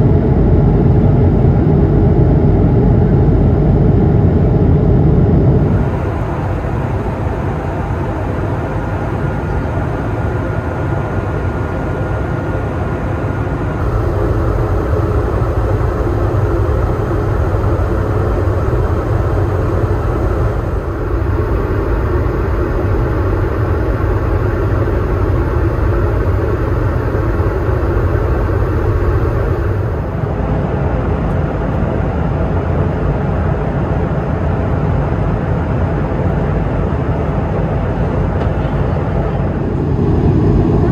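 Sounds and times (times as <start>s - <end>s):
aircraft cabin engine rumble: 0.0s - 40.9s.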